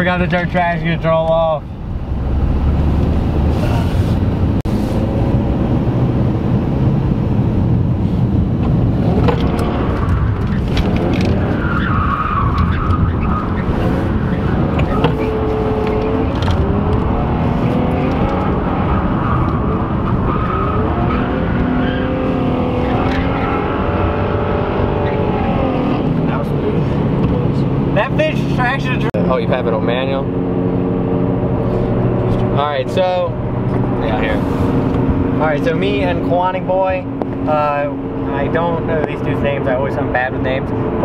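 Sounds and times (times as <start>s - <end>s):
tyres skidding and squealing: 0.0s - 5.4s, 8.0s - 41.0s
car engine revving: 0.0s - 41.0s.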